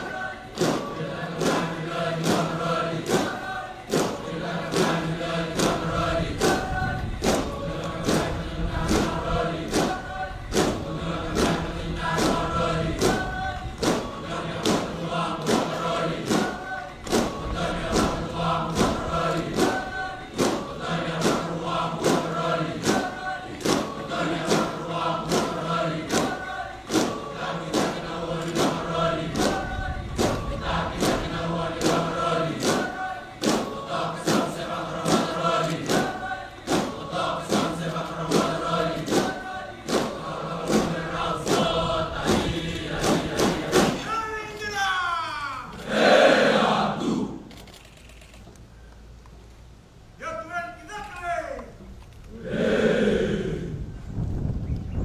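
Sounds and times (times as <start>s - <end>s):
sharp percussive beats: 0.0s - 44.2s
boys chanting in harmony: 0.0s - 47.5s, 52.3s - 53.9s.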